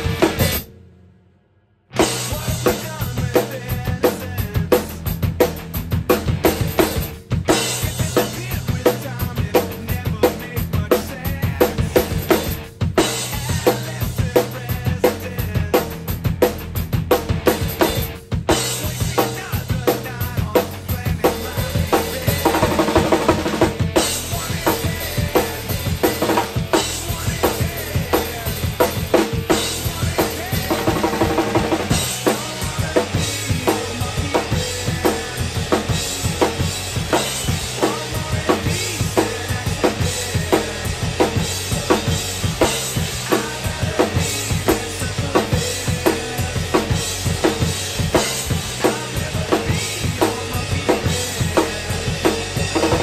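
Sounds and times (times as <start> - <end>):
rock drum kit playing: 0.0 - 1.2, 1.9 - 53.0
rock song recording: 0.0 - 1.2, 1.8 - 53.0.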